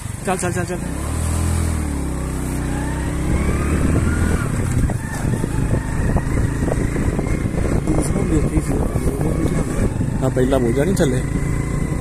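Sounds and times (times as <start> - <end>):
motorcycle engine on dirt track: 0.0 - 12.0.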